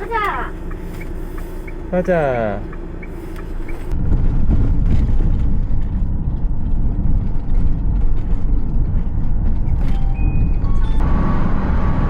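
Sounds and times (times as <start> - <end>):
road noise: 0.0 - 12.0
van engine rumble: 0.0 - 12.0.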